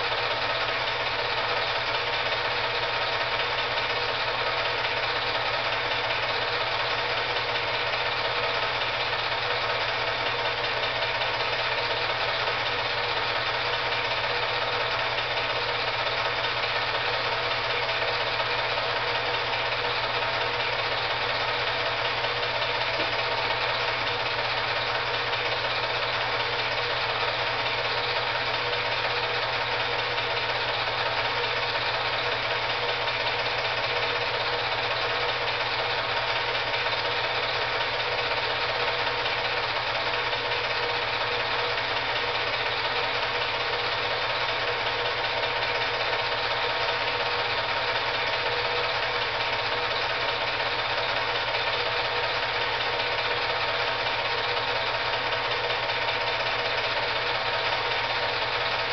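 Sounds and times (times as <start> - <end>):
film projector whirring: 0.0 - 58.9.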